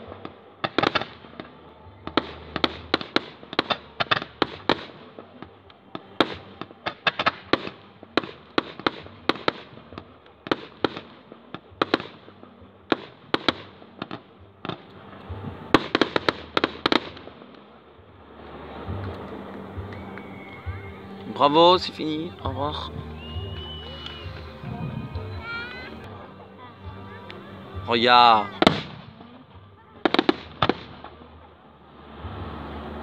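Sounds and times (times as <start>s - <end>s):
fireworks bangs and cracks: 0.0s - 33.0s.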